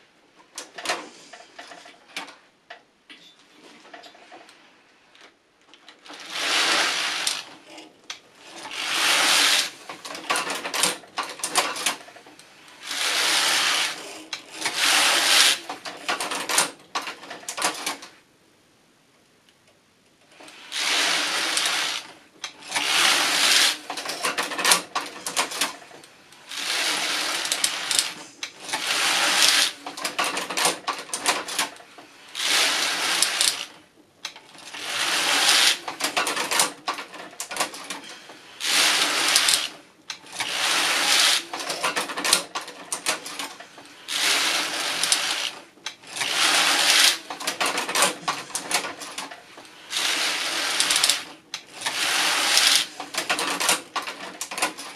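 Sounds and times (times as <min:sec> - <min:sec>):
knitting machine clattering: 0:00.4 - 0:02.8, 0:05.7 - 0:18.2, 0:20.3 - 0:54.9.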